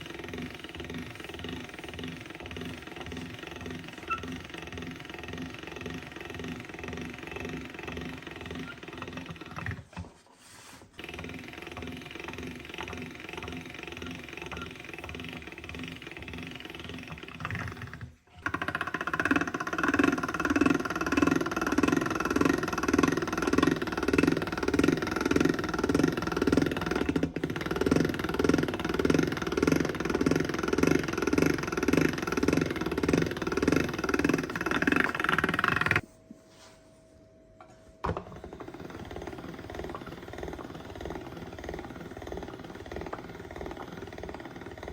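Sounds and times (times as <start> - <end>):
noodle machine clattering: 0.0 - 10.1, 11.0 - 36.0, 38.0 - 44.9.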